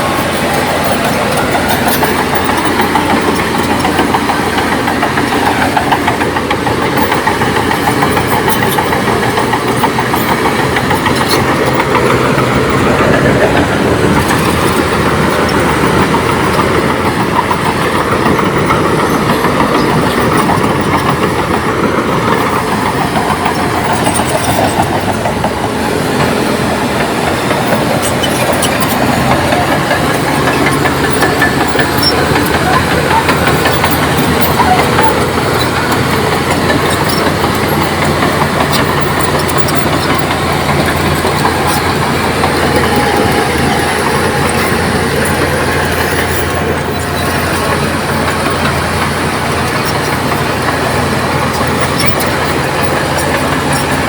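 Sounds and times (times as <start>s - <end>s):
bulldozer diesel engine: 0.0s - 54.0s
steel tracks clattering: 0.0s - 54.0s.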